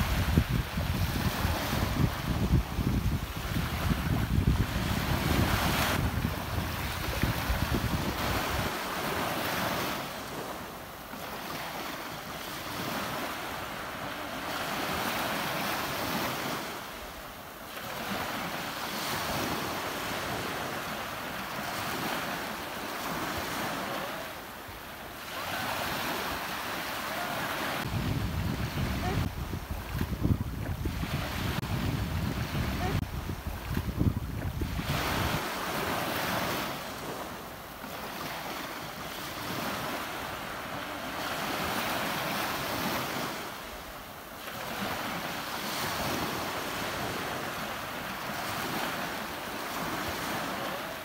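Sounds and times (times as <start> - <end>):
waves breaking: 0.0 - 51.0.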